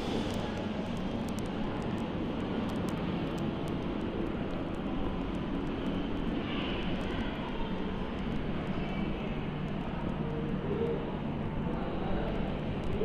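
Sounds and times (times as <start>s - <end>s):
ceiling fans rushing air: 0.0s - 13.0s.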